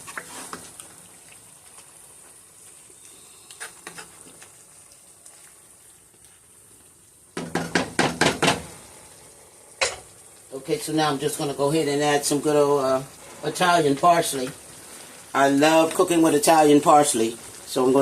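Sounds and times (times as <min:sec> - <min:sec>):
meat simmering with faint sizzle: 0:00.0 - 0:18.0.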